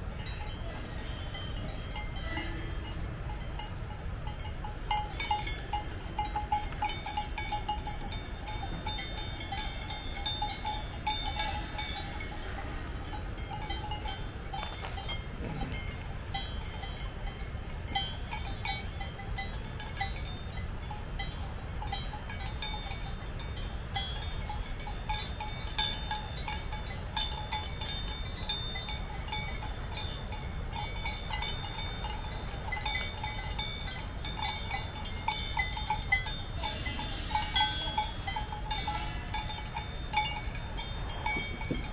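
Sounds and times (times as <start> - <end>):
cowbells clanking: 0.0 - 41.9
steady low rumble: 0.0 - 41.9.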